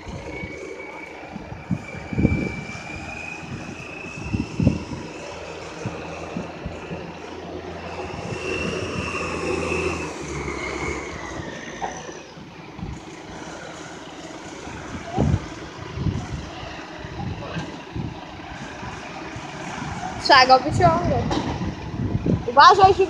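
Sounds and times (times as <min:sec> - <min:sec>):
diesel tractor engine running: 0:00.0 - 0:23.0
high whine sliding down: 0:00.0 - 0:23.0.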